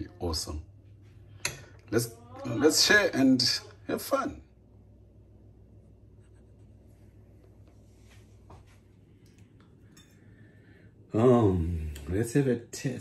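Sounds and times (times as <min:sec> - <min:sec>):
faint low room hum: 0:00.0 - 0:13.0.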